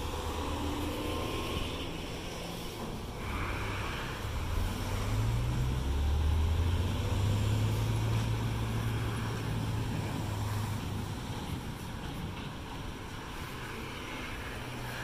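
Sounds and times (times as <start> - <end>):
truck diesel engine pulling away: 0.0 - 13.0
road noise: 0.0 - 15.0.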